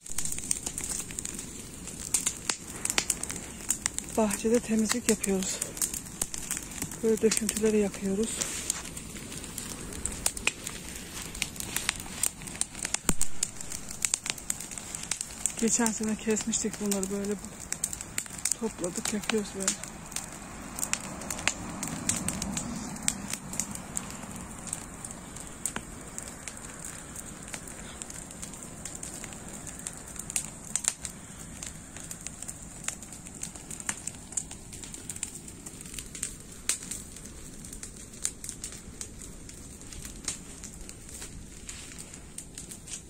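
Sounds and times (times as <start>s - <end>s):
bonfire crackling and popping: 0.0s - 43.0s
fire hissing: 0.0s - 43.0s.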